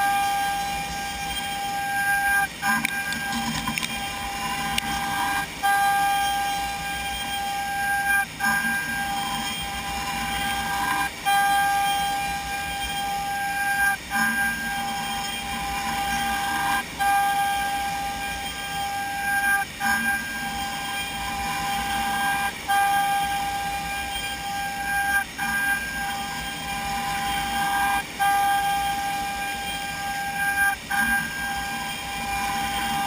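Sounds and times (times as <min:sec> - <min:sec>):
milling machine spindle whine: 0:00.0 - 0:33.0.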